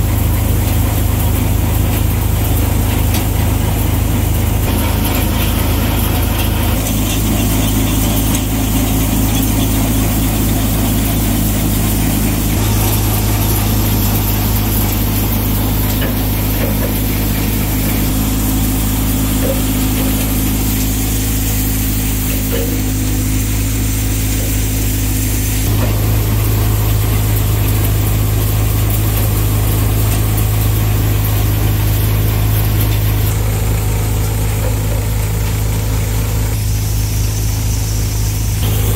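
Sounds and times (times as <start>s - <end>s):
thresher drum and belts: 0.0s - 38.9s
tractor engine drone: 0.0s - 38.9s.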